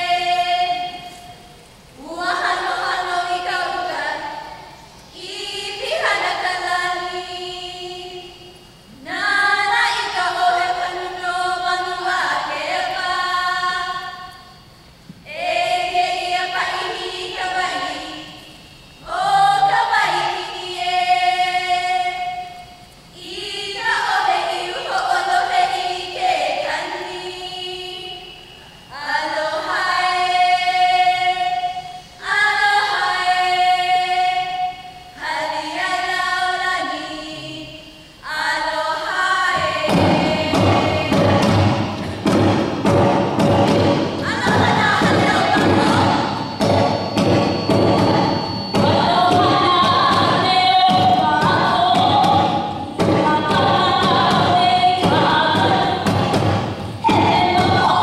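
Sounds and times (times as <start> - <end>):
women chanting in unison: 0.0 - 1.4, 2.0 - 14.3, 15.3 - 18.4, 19.0 - 22.6, 23.2 - 42.4, 44.2 - 58.0.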